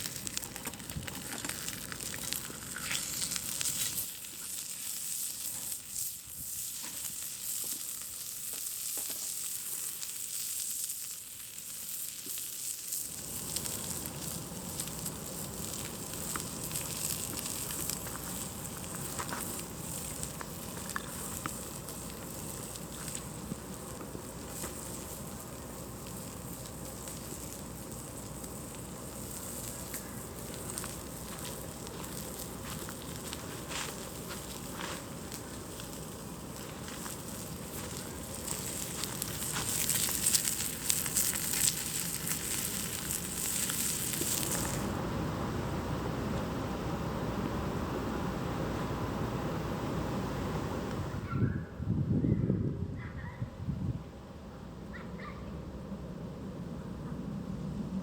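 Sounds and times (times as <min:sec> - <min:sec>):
campfire crackling and popping: 0:00.0 - 0:51.2
low fire rumble: 0:00.0 - 0:58.0.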